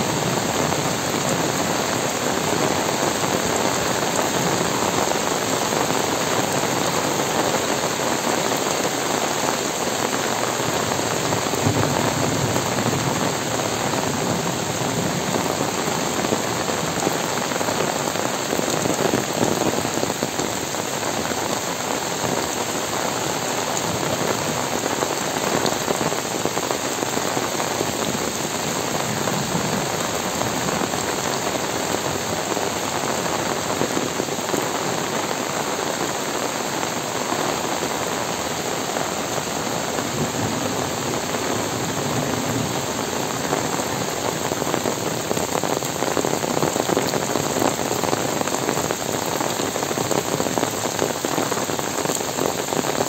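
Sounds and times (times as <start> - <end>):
heavy rain through trees: 0.0 - 53.0.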